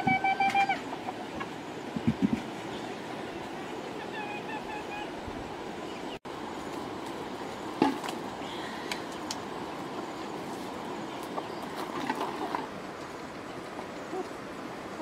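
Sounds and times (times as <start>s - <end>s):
low rushing background noise: 0.8s - 15.0s.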